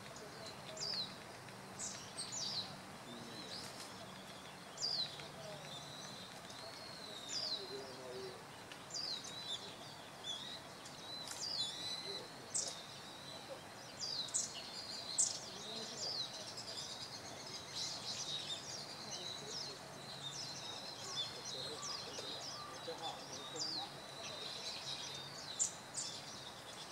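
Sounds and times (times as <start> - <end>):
birds chirping: 0.0 - 26.9
faint outdoor background: 0.0 - 26.9.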